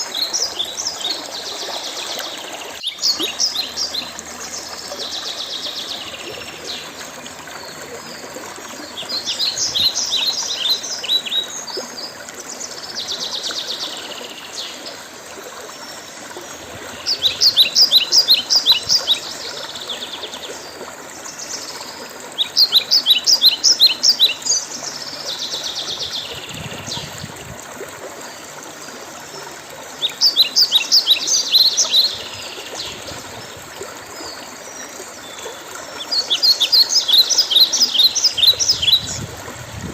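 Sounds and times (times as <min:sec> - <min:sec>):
birds singing: 0:00.0 - 0:15.1, 0:15.8 - 0:27.3, 0:28.2 - 0:39.7.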